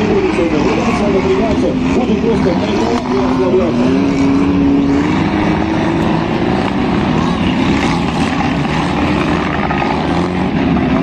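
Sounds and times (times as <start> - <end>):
race car engines at high revs: 0.0 - 11.0.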